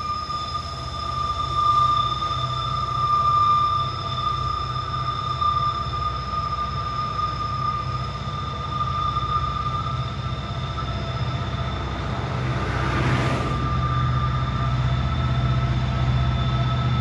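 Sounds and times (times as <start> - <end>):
high-pitched squeal: 0.0 - 17.0
locomotive engine rumble: 0.0 - 17.0.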